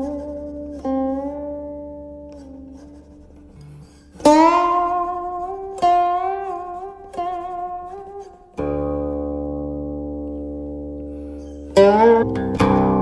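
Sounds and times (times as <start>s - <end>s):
guqin plucked notes: 0.0s - 13.0s.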